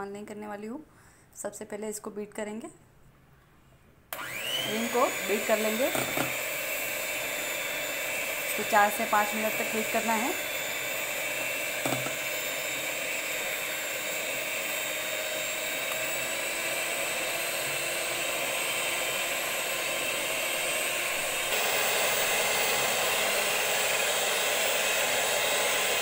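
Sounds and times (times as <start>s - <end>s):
electric hand mixer whirring: 4.1s - 26.0s.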